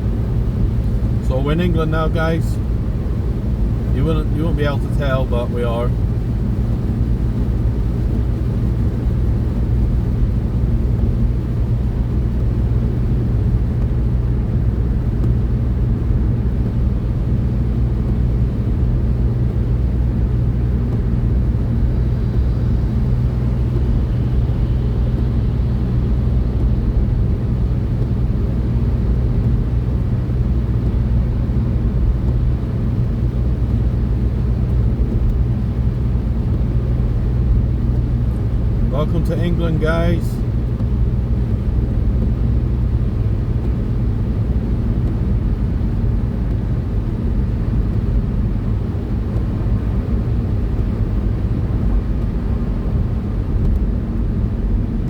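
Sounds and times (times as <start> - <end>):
car engine low rumble: 0.0 - 55.0
tyre road noise: 0.0 - 55.0.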